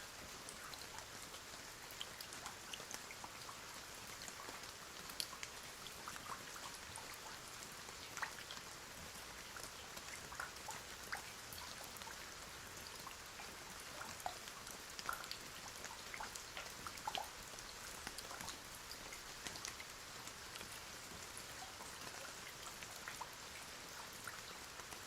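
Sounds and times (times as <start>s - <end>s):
rain falling: 0.0s - 25.0s
drips and patters: 0.1s - 25.0s.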